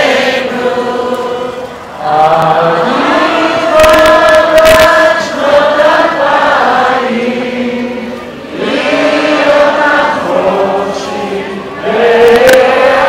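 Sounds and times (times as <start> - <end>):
crowd singing together: 0.0 - 13.0.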